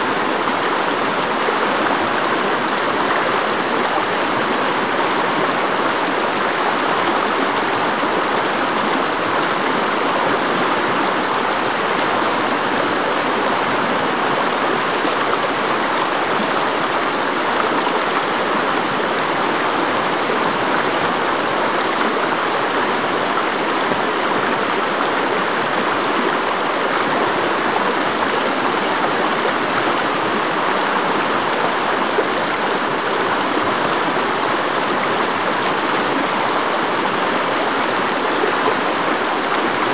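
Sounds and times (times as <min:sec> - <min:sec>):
whitewater rapids rushing over rocks: 0:00.0 - 0:39.9.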